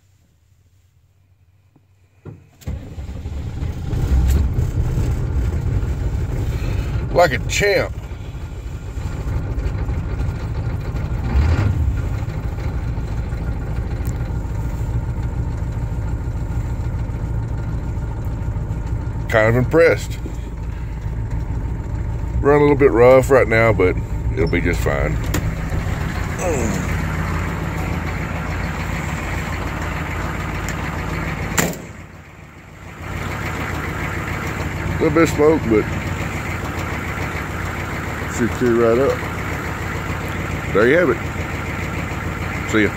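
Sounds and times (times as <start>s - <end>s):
diesel engine idling rough: 0.7s - 42.9s.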